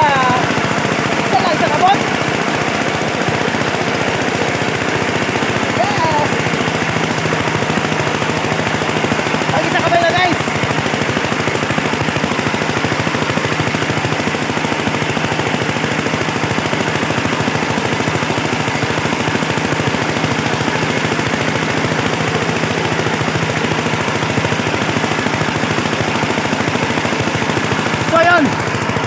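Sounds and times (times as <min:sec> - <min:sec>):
tractor engine chugging: 0:00.0 - 0:29.0.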